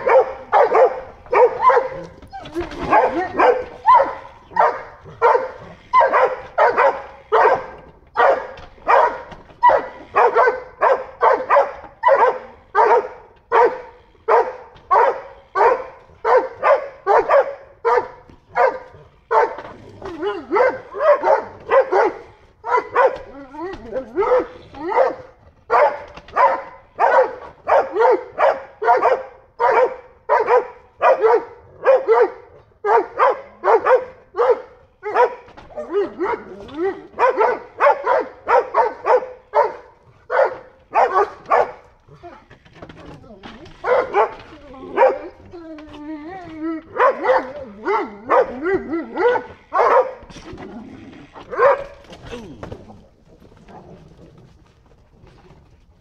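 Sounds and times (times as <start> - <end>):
dogs barking excitedly: 0.0 - 56.0.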